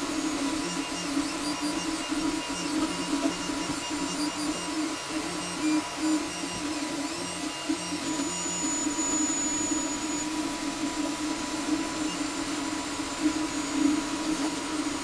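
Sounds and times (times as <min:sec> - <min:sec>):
printer whirring hum: 0:00.0 - 0:15.0.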